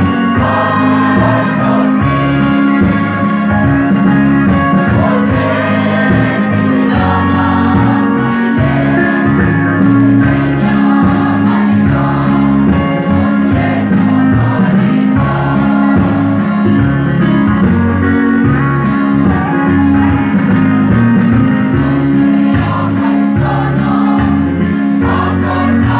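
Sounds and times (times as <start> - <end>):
mixed choir singing gospel: 0.0 - 20.0, 20.6 - 25.9
instruments with held bass notes: 0.0 - 25.9.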